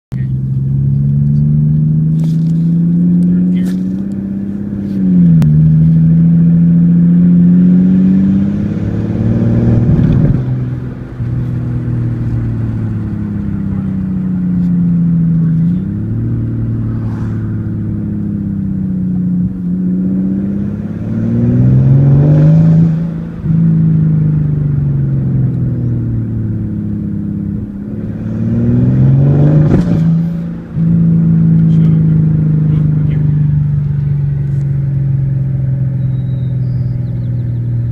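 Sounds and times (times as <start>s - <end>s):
car engine accelerating hard: 0.1s - 37.9s.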